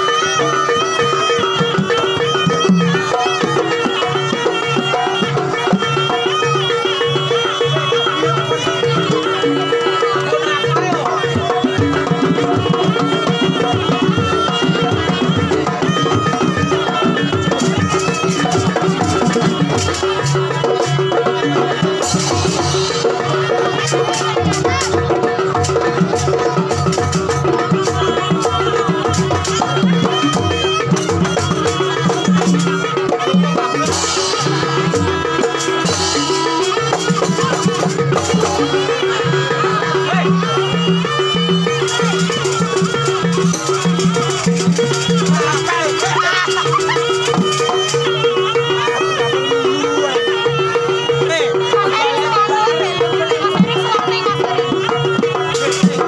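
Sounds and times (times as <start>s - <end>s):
gamelan music: 0.0s - 56.0s
hand drums beating: 0.0s - 56.0s
high wavering melody: 0.0s - 56.0s.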